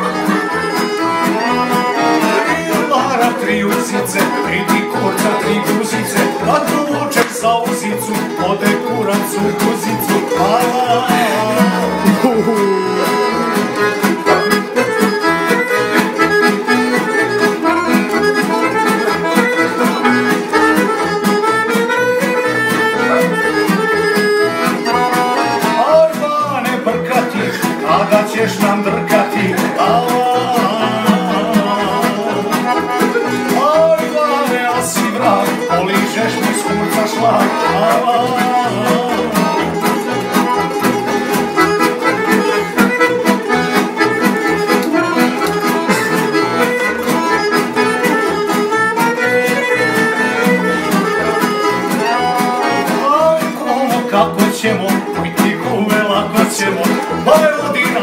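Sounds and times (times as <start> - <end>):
string orchestra playing: 0.0 - 58.0.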